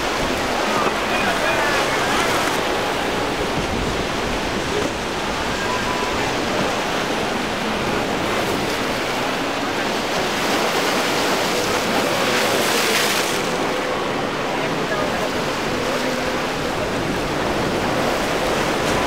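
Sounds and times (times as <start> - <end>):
surf and choppy waves: 0.0 - 19.0.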